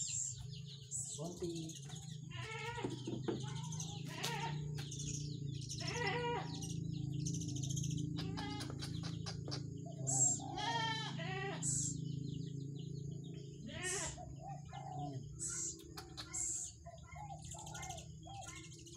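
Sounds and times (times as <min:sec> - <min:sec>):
steady low hum: 0:00.0 - 0:18.9
young birds bleating cries: 0:00.0 - 0:18.9.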